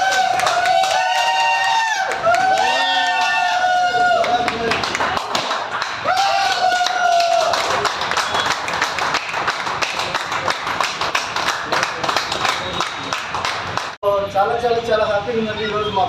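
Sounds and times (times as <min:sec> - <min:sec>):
group clapping: 0:00.0 - 0:14.0.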